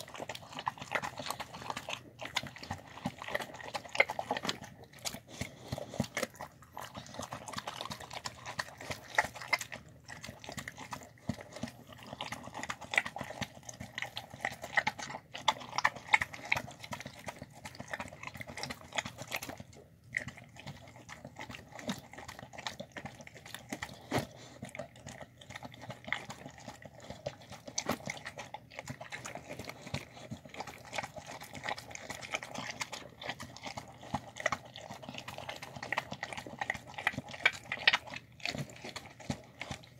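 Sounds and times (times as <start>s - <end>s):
dog chewing food: 0.0s - 39.9s.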